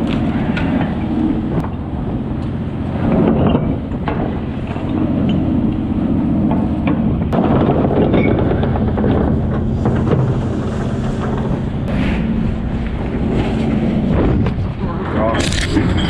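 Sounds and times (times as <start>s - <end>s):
machinery droning: 0.0s - 16.0s
sea wash rushing: 0.0s - 16.0s.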